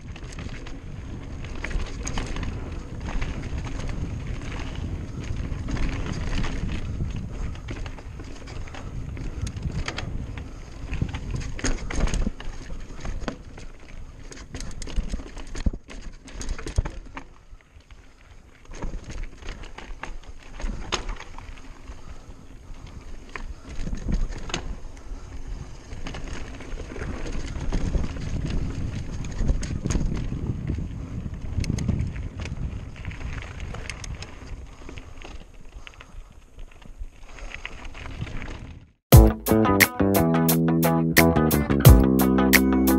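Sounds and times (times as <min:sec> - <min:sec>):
bike tyres rumbling over dirt: 0:00.0 - 0:39.0
bike rattling over bumps: 0:00.0 - 0:39.1.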